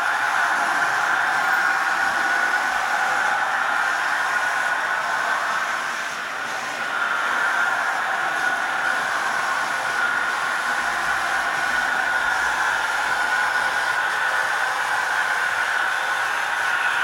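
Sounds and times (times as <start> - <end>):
high steady whine: 0.0 - 17.0
model train motors whirring: 0.0 - 17.0.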